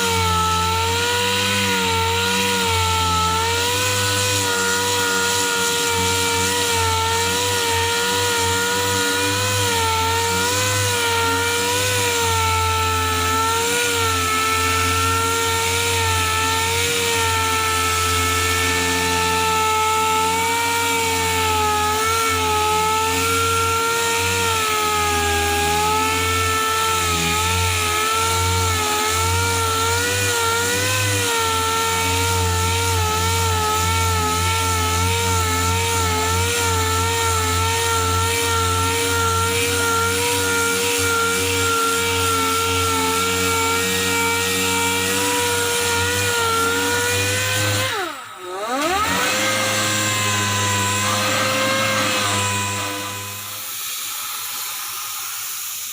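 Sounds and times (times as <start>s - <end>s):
electric power tool whining: 0.0s - 55.9s.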